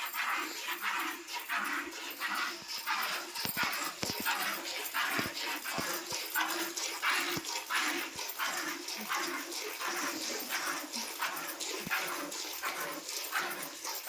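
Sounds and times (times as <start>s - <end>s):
milk squirting into pail: 0.0s - 14.0s.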